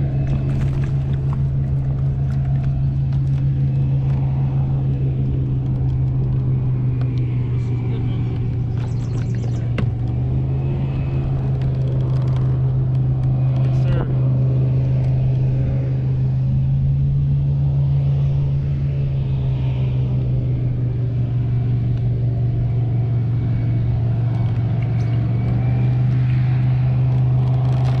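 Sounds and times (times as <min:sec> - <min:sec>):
electric motor humming: 0:00.0 - 0:28.0.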